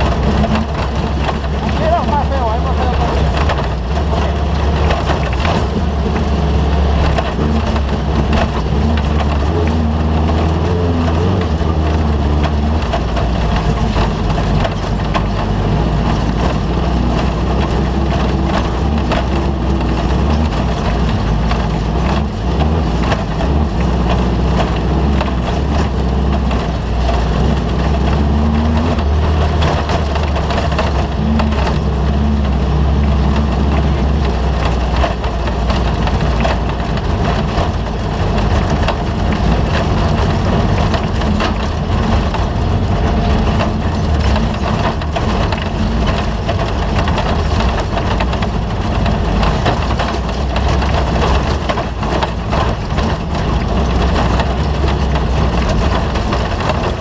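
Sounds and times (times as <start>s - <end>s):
chassis rattling and knocking: 0.0s - 57.0s
loud low engine drone: 0.0s - 57.0s.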